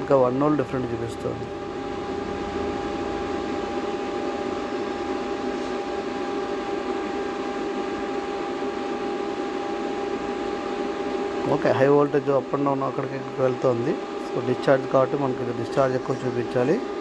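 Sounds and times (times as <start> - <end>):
cooling fan whirring: 0.0 - 17.0.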